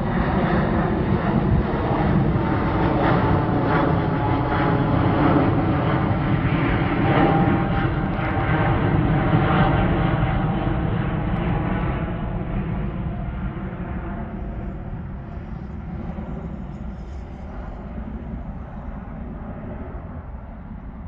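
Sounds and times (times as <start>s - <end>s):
jet engine roar overhead: 0.0s - 21.0s.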